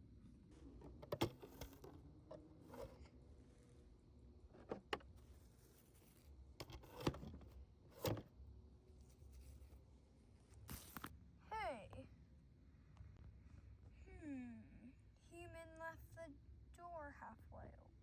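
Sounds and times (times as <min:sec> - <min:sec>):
quiet room hum: 0:00.0 - 0:18.0.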